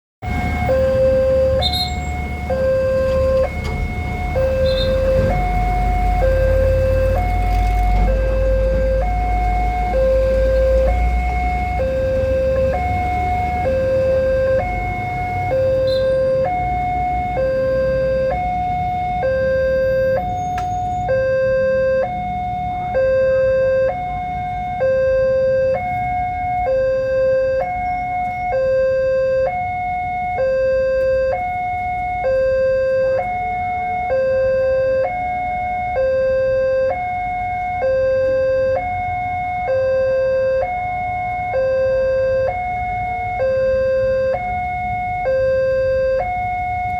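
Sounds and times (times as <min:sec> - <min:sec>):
two-tone crossing warning alarm: 0:00.2 - 0:46.9.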